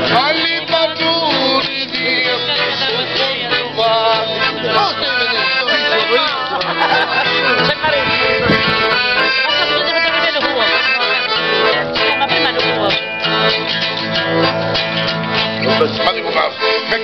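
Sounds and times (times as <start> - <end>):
accordion: 0.0 - 17.0
acoustic guitar: 0.0 - 17.0.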